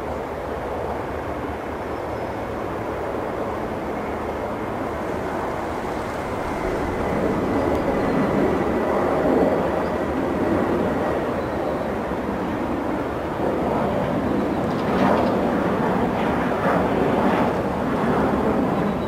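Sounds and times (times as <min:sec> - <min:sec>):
jet engine rumble with whine: 0:00.0 - 0:19.0.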